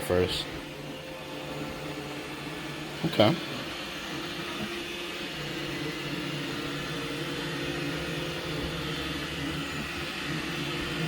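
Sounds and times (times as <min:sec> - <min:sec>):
robot vacuum humming: 0:00.0 - 0:11.0.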